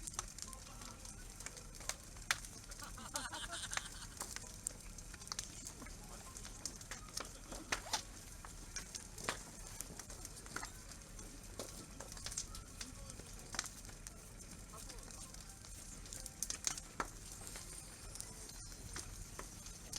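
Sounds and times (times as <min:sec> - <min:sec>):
bonfire crackling: 0:00.0 - 0:19.9
burning logs popping: 0:00.0 - 0:19.9.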